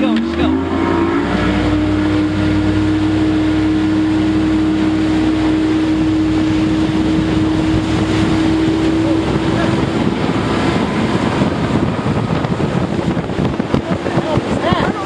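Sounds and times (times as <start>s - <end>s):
motorboat engine running: 0.0s - 15.0s
water rushing past boat: 0.0s - 15.0s
wind rushing: 0.0s - 15.0s.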